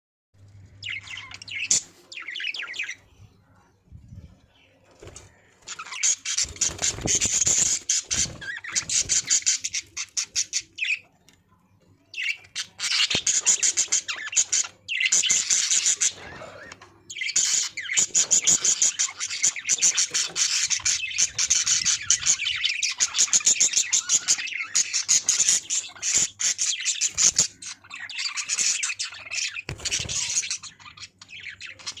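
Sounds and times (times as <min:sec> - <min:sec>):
budgerigars chirping and chattering: 0:00.6 - 0:11.2, 0:12.0 - 0:32.0.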